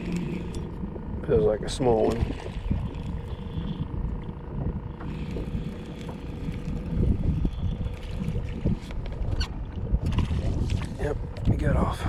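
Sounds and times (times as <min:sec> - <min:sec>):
faint steady hum: 0:00.0 - 0:12.0
wind buffeting microphone: 0:00.0 - 0:12.0.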